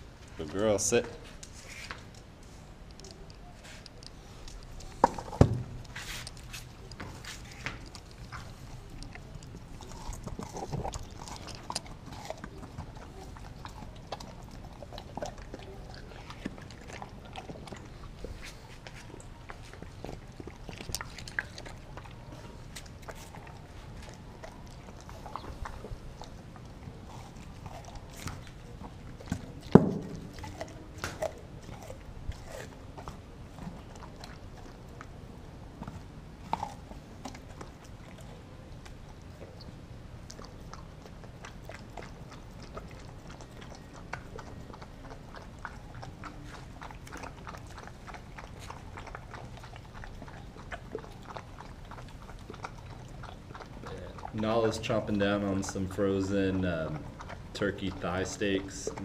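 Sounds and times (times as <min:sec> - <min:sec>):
dog crunching frozen meat: 0:00.4 - 0:59.0.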